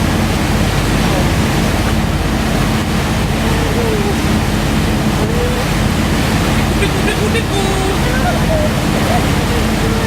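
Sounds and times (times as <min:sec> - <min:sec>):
boat engine hum: 0:00.0 - 0:10.0
water rushing: 0:00.0 - 0:10.0.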